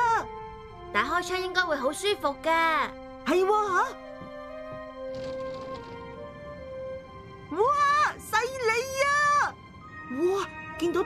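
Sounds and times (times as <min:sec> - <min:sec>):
soft cartoon music: 0:00.0 - 0:11.0.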